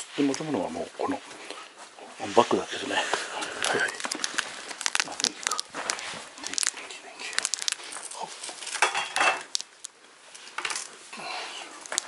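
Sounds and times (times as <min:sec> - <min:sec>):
bag rustling and crinkling: 0:00.2 - 0:12.0.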